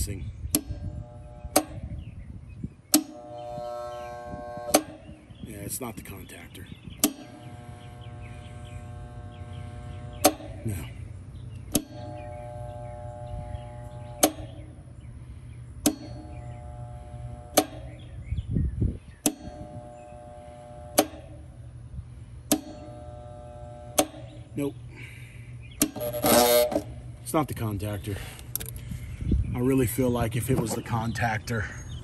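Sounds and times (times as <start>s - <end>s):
contactor buzzing hum: 0.0s - 32.0s.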